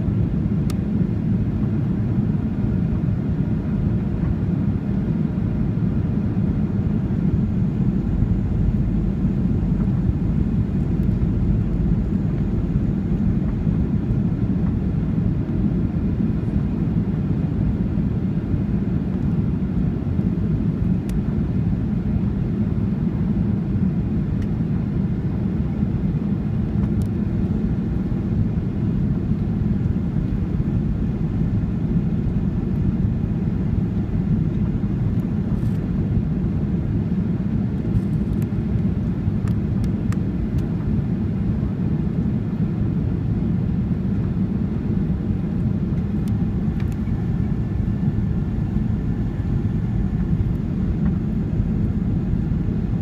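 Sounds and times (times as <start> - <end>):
airflow over fuselage: 0.0 - 53.0
airplane cabin engine rumble: 0.0 - 53.0.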